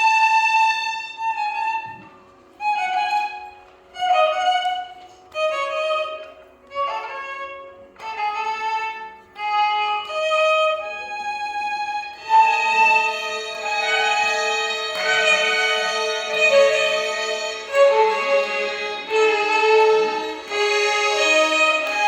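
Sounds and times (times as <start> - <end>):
violin ensemble melody: 0.0 - 22.0.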